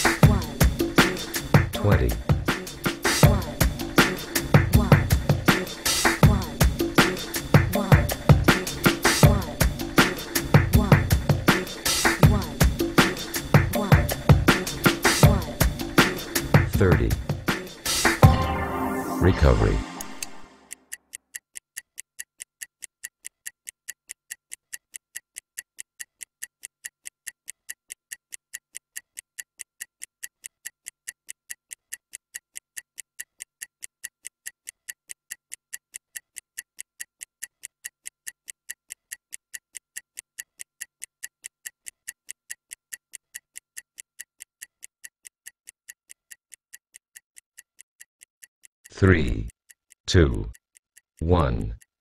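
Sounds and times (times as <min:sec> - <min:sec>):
stopwatch ticking: 0:00.0 - 0:18.3, 0:20.7 - 0:52.0.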